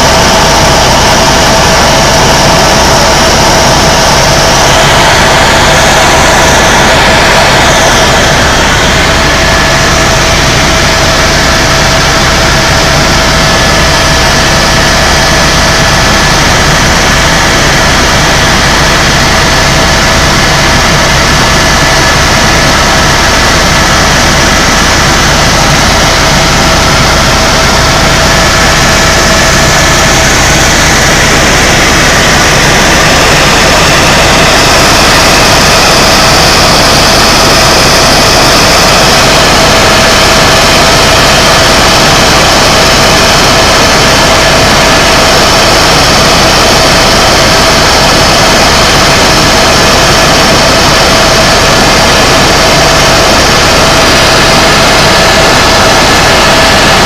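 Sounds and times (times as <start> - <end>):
helicopter engine and rotor noise: 0.0 - 57.0.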